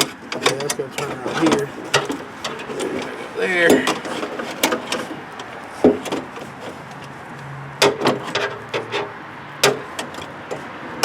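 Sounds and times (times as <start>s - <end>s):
plastic and metal parts clicking: 0.0s - 10.8s.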